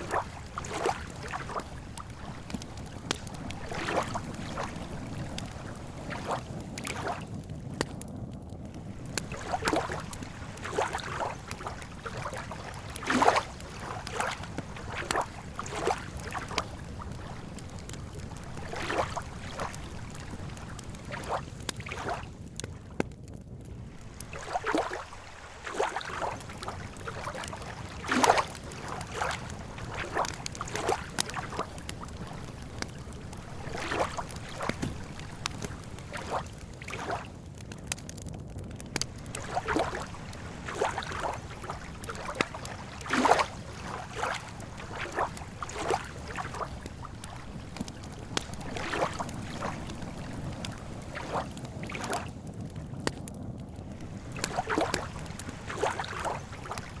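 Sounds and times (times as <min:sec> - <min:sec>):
lake water lapping: 0:00.0 - 0:08.0, 0:08.7 - 0:22.4, 0:23.7 - 0:38.0, 0:38.8 - 0:52.4, 0:53.8 - 0:57.0
campfire crackling and popping: 0:00.0 - 0:57.0.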